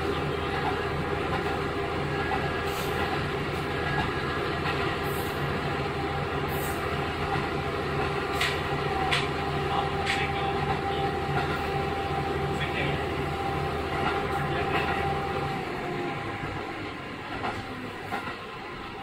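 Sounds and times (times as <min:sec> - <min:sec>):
railcar engine and wheels droning: 0:00.0 - 0:19.0.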